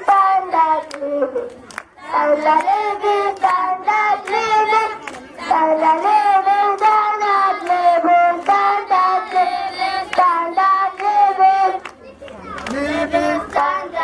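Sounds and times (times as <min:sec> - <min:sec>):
child singing into a microphone: 0:00.0 - 0:14.0
hand claps: 0:00.7 - 0:05.3, 0:06.0 - 0:13.8.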